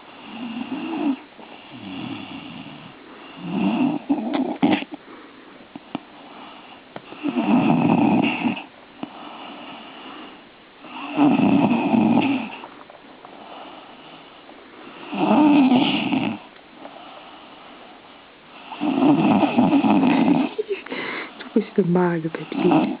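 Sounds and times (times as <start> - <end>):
dog snoring: 0.0 - 5.0, 5.7 - 21.5, 22.4 - 23.0.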